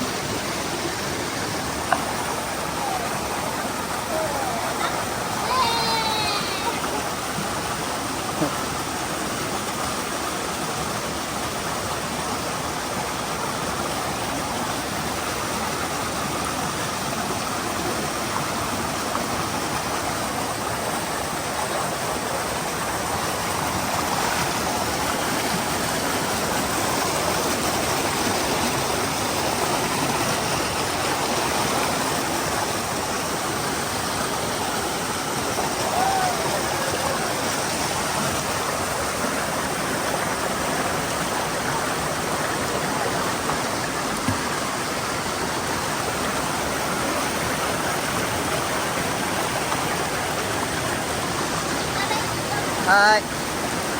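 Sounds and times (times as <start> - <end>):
stream rushing over boulders: 0.0 - 53.9.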